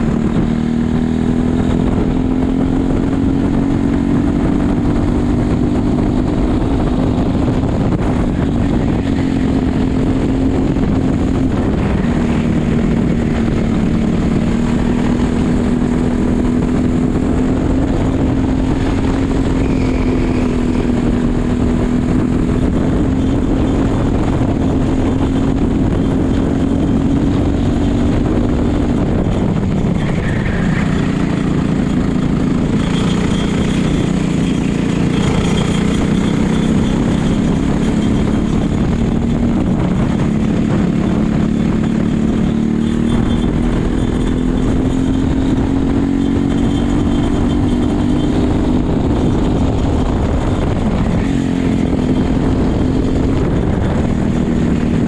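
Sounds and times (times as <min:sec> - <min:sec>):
kart engine at high revs: 0:00.0 - 0:55.0.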